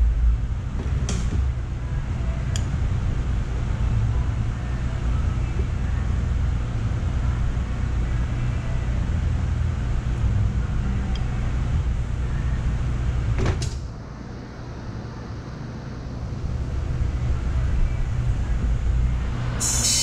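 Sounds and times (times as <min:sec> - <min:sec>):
steady low rumble: 0:00.0 - 0:19.6.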